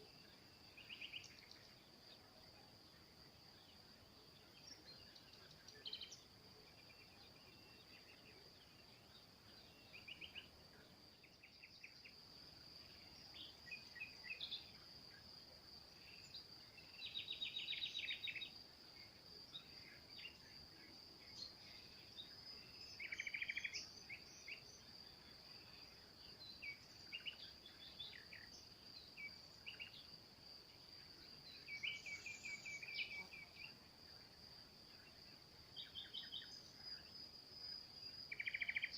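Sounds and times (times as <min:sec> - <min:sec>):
small birds chirping and trilling: 0:00.1 - 0:02.2, 0:02.8 - 0:38.9.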